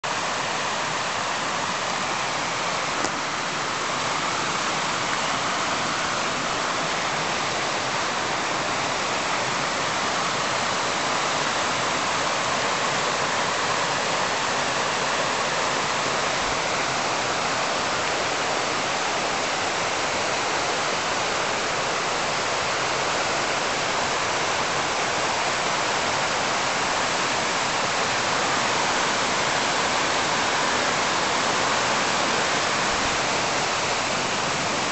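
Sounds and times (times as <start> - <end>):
creek rushing over boulders: 0.0 - 34.9.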